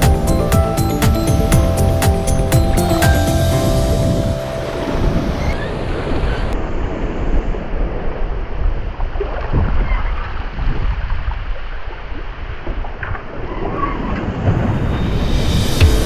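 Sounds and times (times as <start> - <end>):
water splashing along hull: 0.0 - 16.0
wind buffeting microphone: 1.2 - 16.0.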